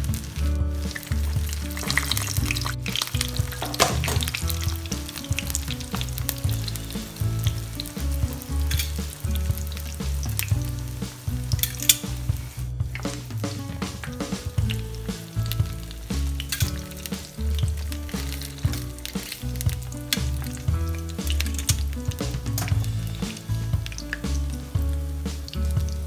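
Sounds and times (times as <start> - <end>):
background music with bass: 0.0 - 26.0
food sizzling in hot oil: 0.0 - 26.0.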